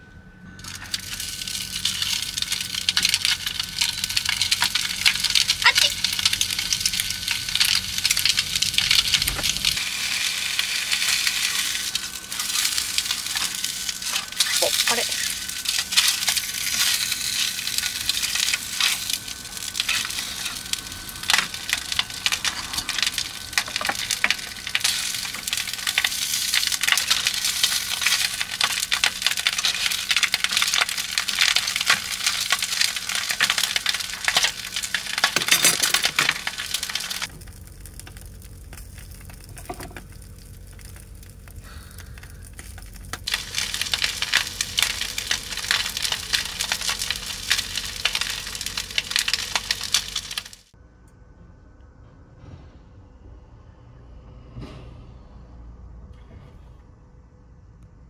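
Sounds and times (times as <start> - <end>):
low hum: 0.0 - 58.0
fish sizzling in a frying pan: 0.7 - 50.8.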